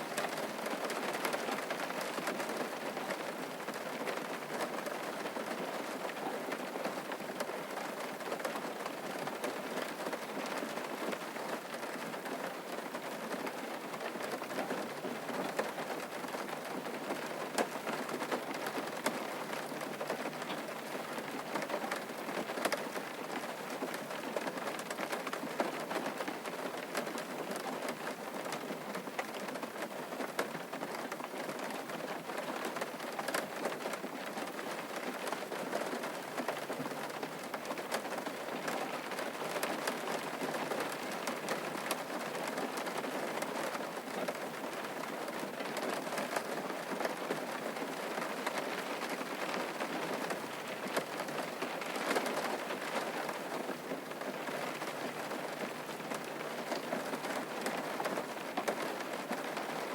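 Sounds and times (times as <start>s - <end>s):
steady rain: 0.0s - 59.9s
raindrops ticking: 0.1s - 59.9s.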